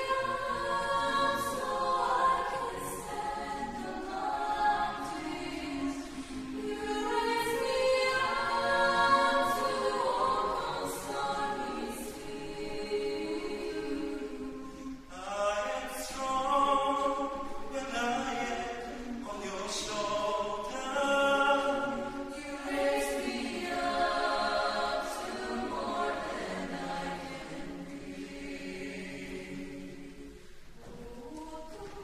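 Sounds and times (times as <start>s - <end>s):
choir singing a cappella: 0.0s - 32.0s.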